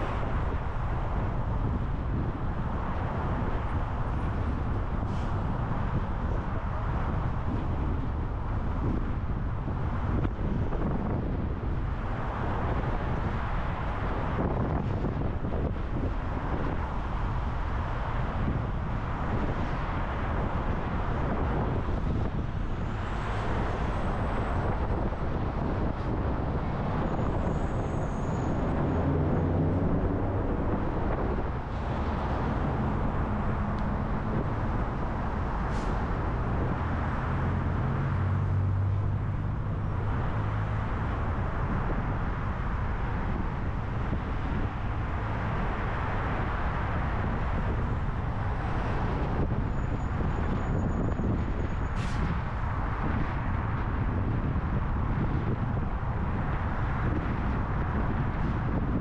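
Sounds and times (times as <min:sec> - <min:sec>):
highway road noise: 0:00.0 - 0:59.0
tyre and wind noise: 0:00.0 - 0:59.0.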